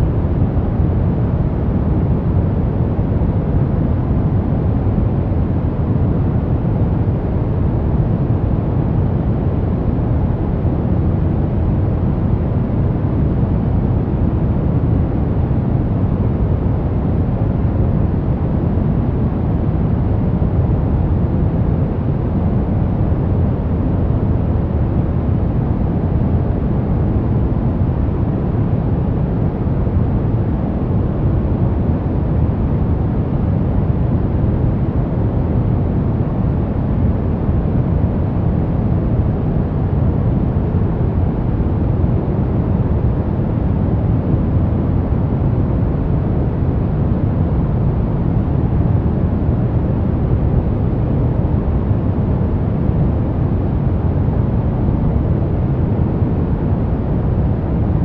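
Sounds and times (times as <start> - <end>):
low rumbling noise: 0.0 - 58.0.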